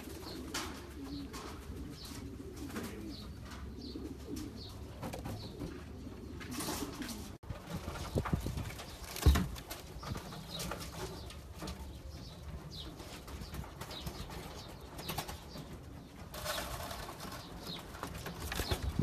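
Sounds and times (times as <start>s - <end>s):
pigeons cooing: 0.0s - 19.0s
pigeons shuffling: 0.0s - 19.0s.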